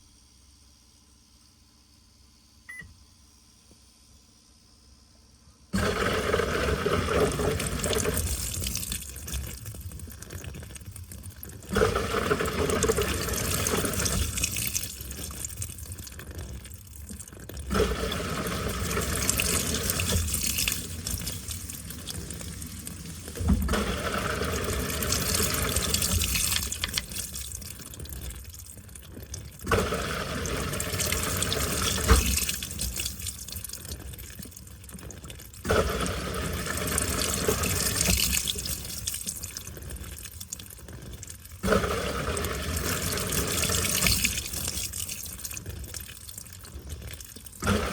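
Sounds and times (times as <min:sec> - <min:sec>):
washing machine running: 0:05.7 - 0:47.9.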